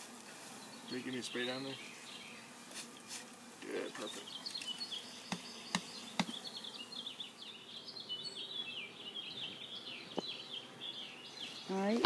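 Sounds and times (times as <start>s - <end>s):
honeybees buzzing: 0.0s - 12.0s
songbirds chattering: 0.0s - 12.0s.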